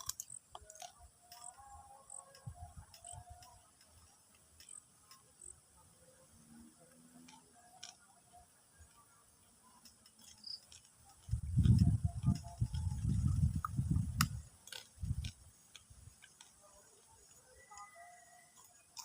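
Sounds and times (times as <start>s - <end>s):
high-pitched insect trilling: 0.0s - 19.0s.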